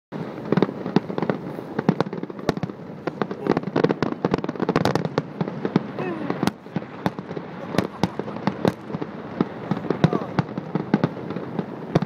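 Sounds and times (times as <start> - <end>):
fireworks bangs and crackling pops: 0.2 - 12.0.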